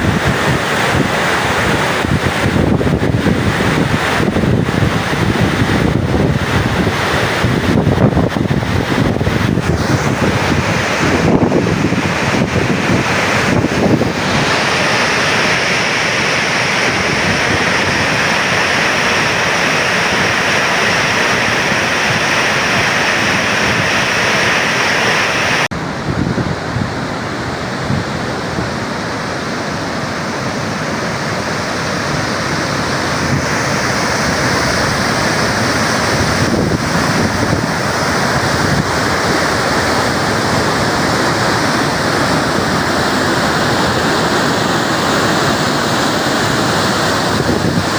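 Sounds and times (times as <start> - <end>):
floodwater rushing through spillway: 0.0 - 47.9.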